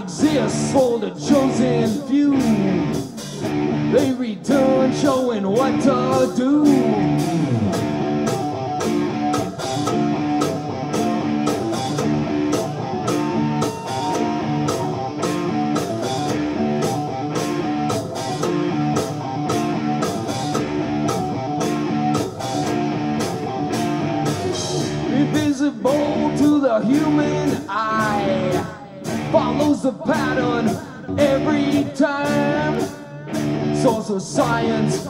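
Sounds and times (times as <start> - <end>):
distorted electric guitars riffing: 0.0 - 35.0
drum kit beat: 0.0 - 35.0
rock band playing live: 0.0 - 35.0.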